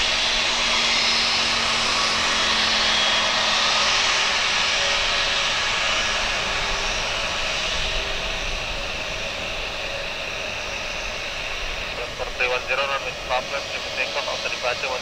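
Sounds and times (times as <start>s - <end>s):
jet engines hissing: 0.0s - 15.0s.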